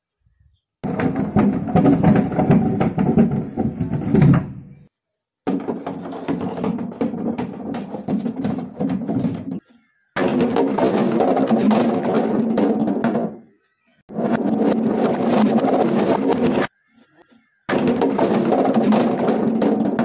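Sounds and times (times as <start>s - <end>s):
plastic crates clacking: 0.8s - 4.8s, 5.5s - 13.5s, 14.1s - 16.7s, 17.7s - 20.0s.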